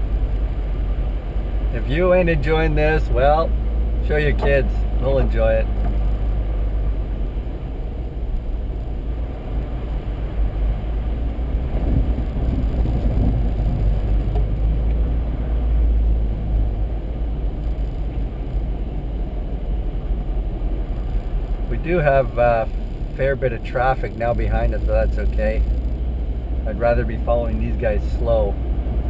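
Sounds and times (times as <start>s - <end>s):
vehicle rumble from inside cab: 0.0s - 29.0s.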